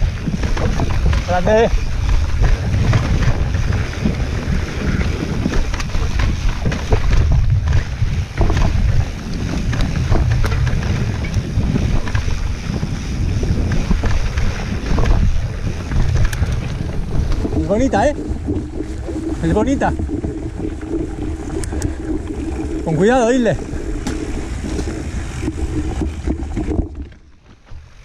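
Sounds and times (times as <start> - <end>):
bike knocks and rattles: 0.0 - 28.0
wind rumble on microphone: 0.0 - 28.0.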